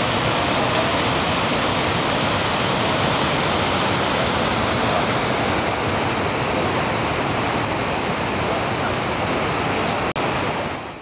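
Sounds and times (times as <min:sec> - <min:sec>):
stream rushing over boulders: 0:00.0 - 0:11.0.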